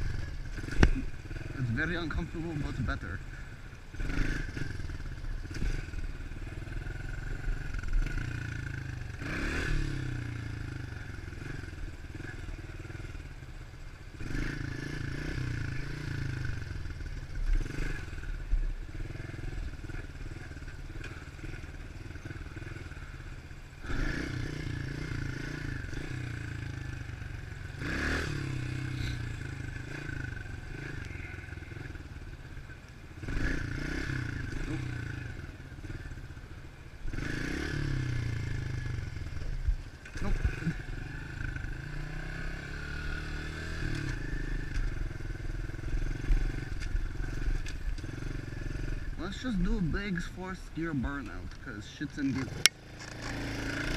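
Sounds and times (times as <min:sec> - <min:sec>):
pit bike engine revving: 0:00.0 - 0:03.3, 0:03.9 - 0:13.3, 0:14.1 - 0:32.3, 0:33.2 - 0:36.4, 0:37.0 - 0:53.9.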